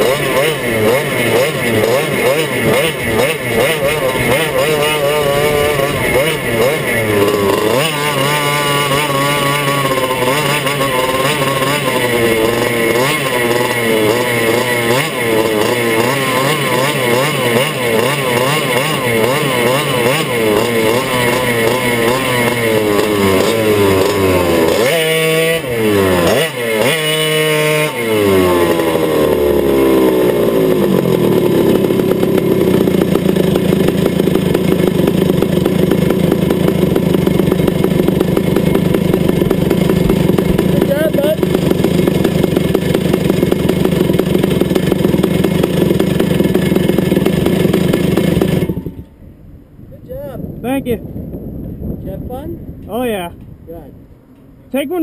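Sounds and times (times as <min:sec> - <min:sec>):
two-stroke kart engine: 0:00.0 - 0:55.0.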